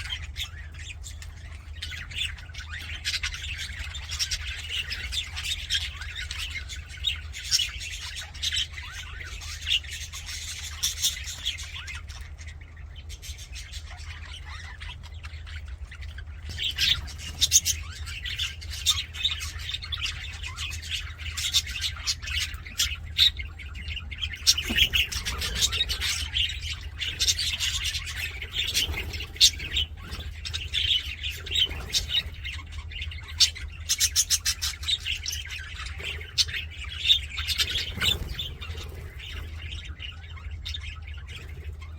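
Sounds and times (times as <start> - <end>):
budgerigars chattering: 0.0 - 41.9
steady low hum: 0.0 - 41.9.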